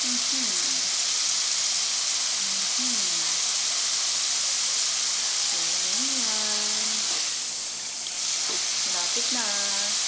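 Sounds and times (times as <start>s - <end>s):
fries sizzling in hot oil: 0.0s - 10.0s.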